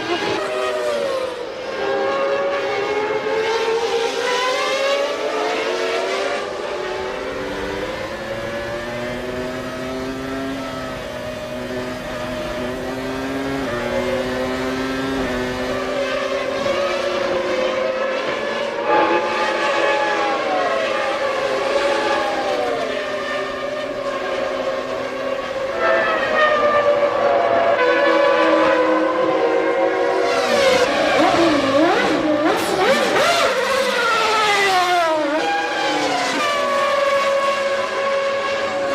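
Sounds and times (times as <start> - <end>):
race car engines at high revs: 0.0 - 38.9.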